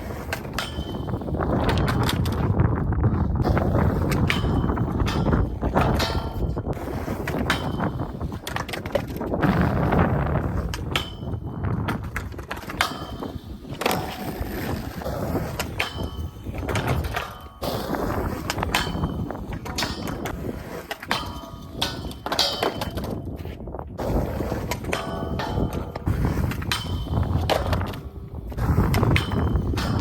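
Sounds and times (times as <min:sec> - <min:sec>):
skateboard clacks and knocks: 0:00.0 - 0:30.0
skateboard wheels rumbling: 0:00.0 - 0:30.0.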